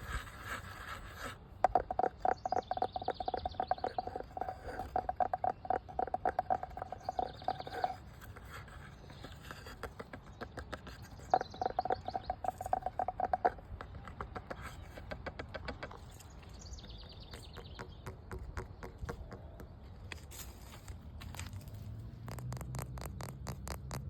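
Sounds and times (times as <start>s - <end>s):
birds chirping: 0.0s - 20.3s
tapping on hard object: 1.6s - 8.6s, 9.2s - 19.8s, 22.2s - 24.0s.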